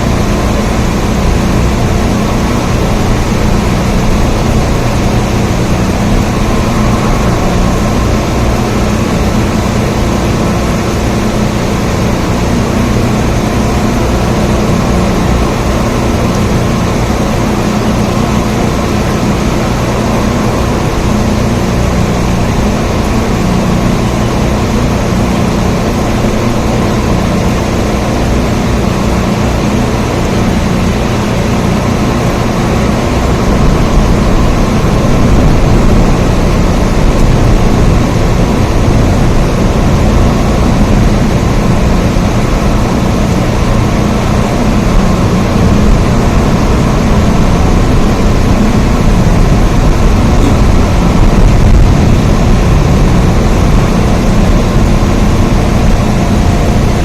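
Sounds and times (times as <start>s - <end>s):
deep rumble: 0.0s - 57.0s
loud rain: 0.0s - 57.0s.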